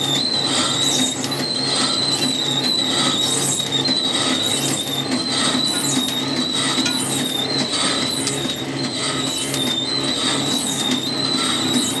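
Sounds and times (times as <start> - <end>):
packing machine whine: 0.0 - 12.0.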